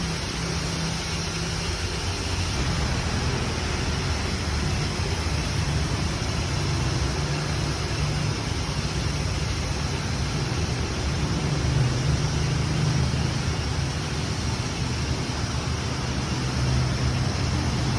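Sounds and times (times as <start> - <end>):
broad hiss: 0.0 - 17.9
engine hum: 0.0 - 17.9.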